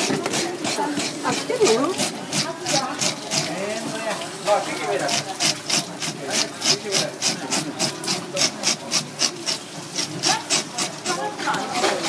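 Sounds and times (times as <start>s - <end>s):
fish scaler rasping scales: 0.0s - 12.0s.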